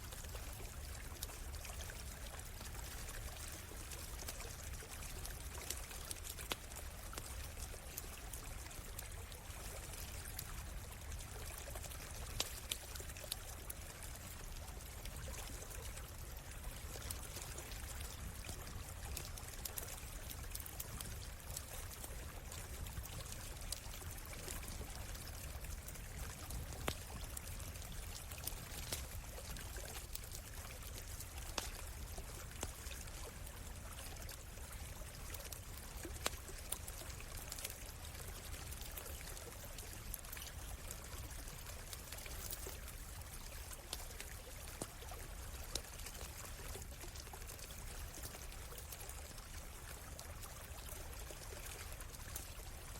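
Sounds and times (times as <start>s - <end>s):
campfire crackling: 0.0s - 49.0s
stream running: 0.0s - 52.9s.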